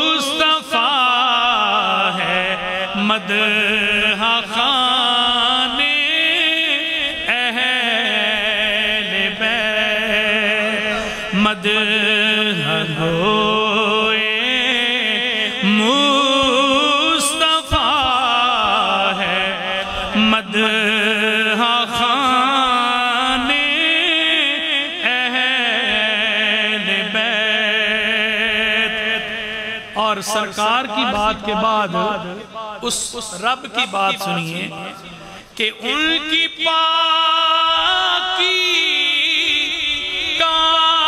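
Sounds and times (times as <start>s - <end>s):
man chanting: 0.0s - 41.0s.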